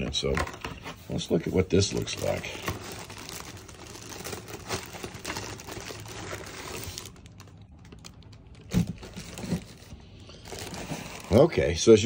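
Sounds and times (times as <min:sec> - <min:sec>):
plastic wrapping crinkling: 0:01.5 - 0:11.6.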